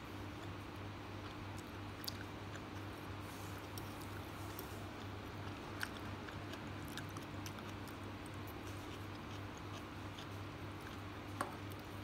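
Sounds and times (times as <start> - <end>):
steady low hum: 0.0 - 12.0
person chewing noodles: 0.3 - 12.0.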